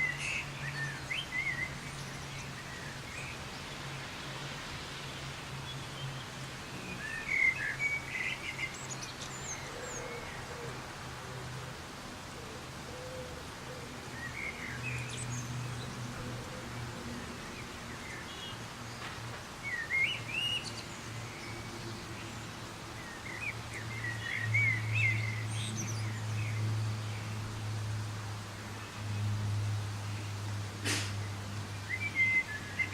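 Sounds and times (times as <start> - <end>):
soft rain falling: 0.0 - 32.9.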